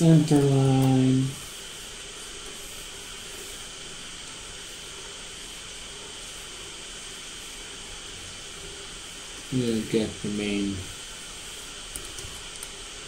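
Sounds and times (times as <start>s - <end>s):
background hiss: 0.0s - 13.0s
faint high whine: 0.0s - 13.0s.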